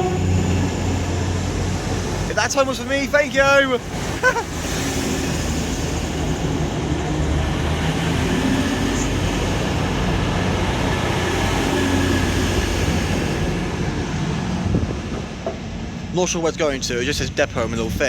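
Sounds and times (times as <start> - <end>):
diesel train engines droning: 0.0 - 18.0.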